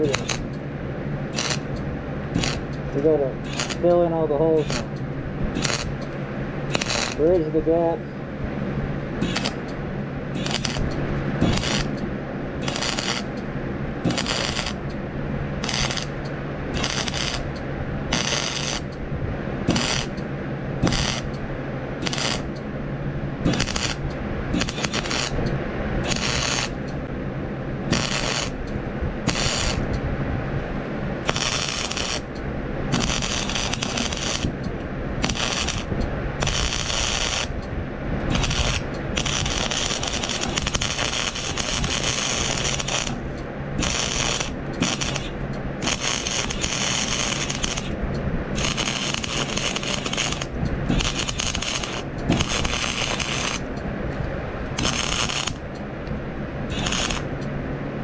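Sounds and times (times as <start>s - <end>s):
welding arc crackling: 0.0s - 8.0s, 9.2s - 15.0s, 15.6s - 19.0s, 19.6s - 22.8s, 23.4s - 27.1s, 27.8s - 30.0s, 31.2s - 48.0s, 48.6s - 53.8s, 54.7s - 55.8s, 56.7s - 57.4s
steady low hum: 0.0s - 58.0s.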